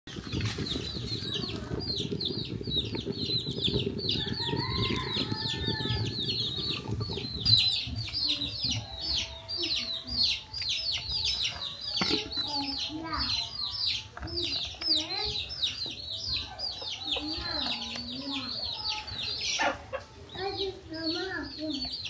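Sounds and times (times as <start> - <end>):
birds chirping: 0.1 - 22.0
low rumbling noise: 0.1 - 22.0.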